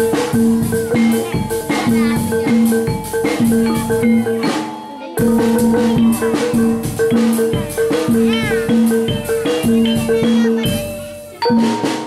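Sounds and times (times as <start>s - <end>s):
upbeat music with drums: 0.0s - 12.0s.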